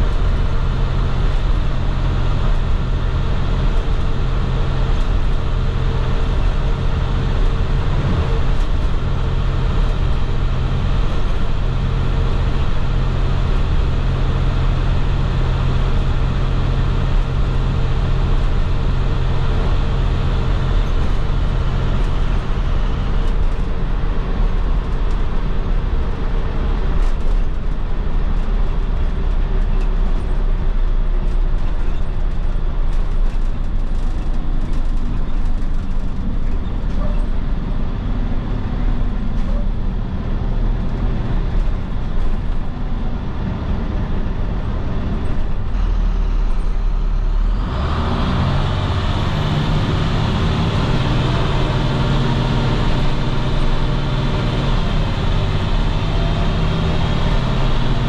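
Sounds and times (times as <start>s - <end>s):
bus diesel engine driving: 0.0s - 58.0s.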